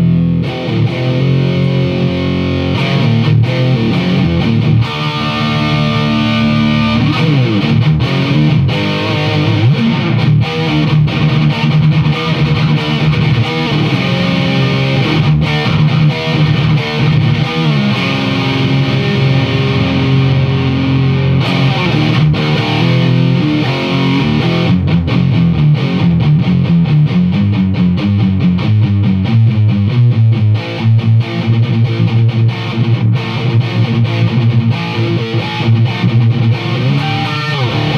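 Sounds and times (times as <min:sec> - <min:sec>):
distorted electric guitar: 0:00.0 - 0:37.9.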